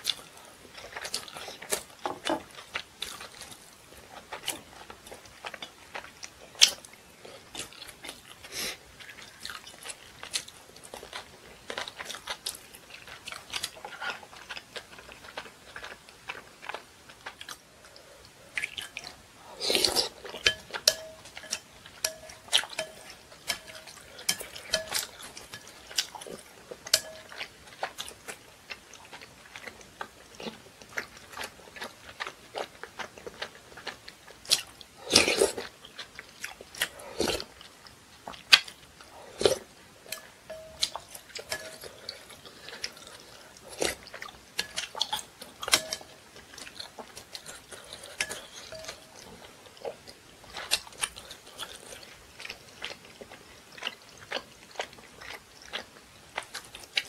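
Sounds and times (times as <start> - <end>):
close chewing with mouth clicks: 0.0 - 57.0.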